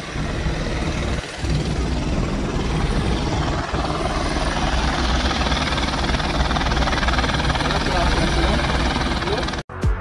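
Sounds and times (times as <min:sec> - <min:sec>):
distant helicopter rotor rumble: 0:00.0 - 0:09.7.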